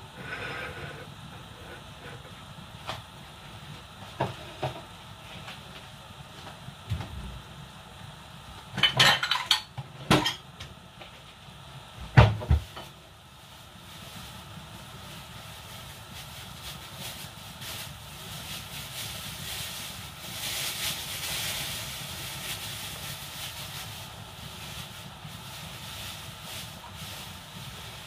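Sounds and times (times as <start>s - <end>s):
soup simmering hiss: 0.0s - 28.0s.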